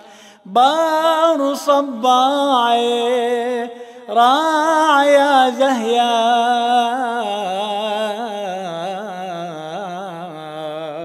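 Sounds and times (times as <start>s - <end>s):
man singing a hymn: 0.4s - 11.0s.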